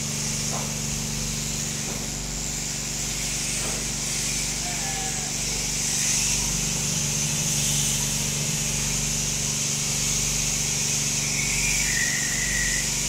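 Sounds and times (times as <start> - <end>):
electric sheep shears humming: 0.0 - 13.0.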